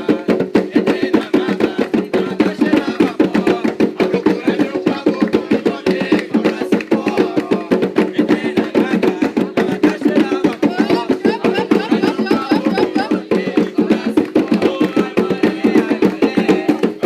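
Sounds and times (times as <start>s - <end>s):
hand drums beating fast rhythm: 0.0s - 17.0s.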